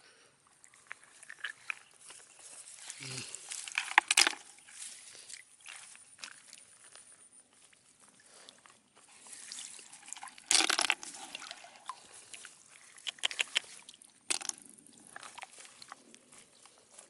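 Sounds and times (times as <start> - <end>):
water sloshing and splashing: 0.6 - 7.0, 7.6 - 17.0.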